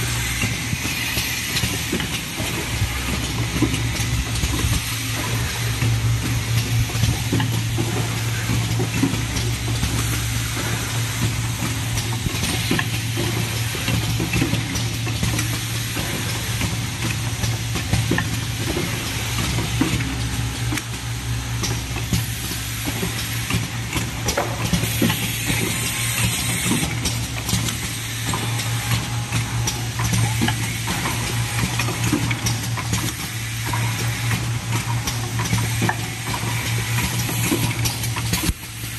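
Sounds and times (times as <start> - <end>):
machine humming: 0.0 - 38.9.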